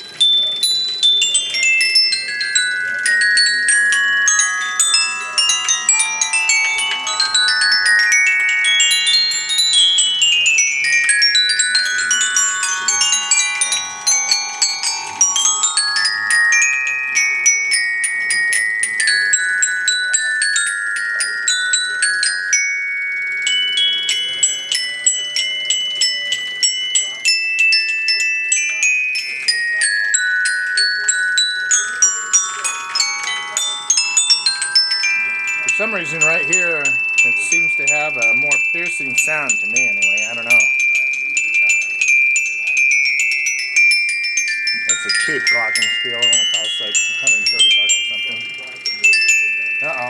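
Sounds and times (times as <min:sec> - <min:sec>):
glockenspiel runs: 0:00.0 - 0:50.0.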